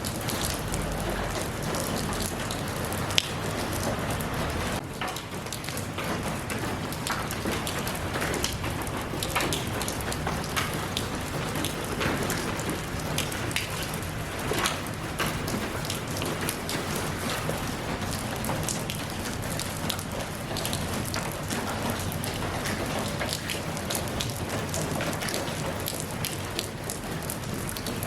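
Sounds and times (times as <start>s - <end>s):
raindrops striking surface: 0.0s - 28.0s
steady rain hiss: 0.0s - 28.0s.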